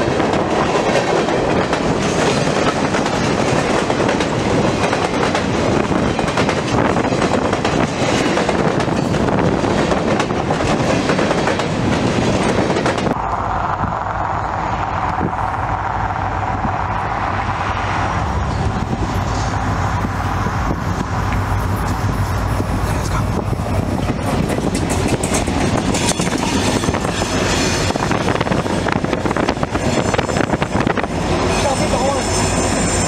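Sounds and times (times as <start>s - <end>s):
diesel locomotive engine hum: 0.0s - 33.0s
road rush: 0.0s - 33.0s
wind buffeting: 0.0s - 33.0s.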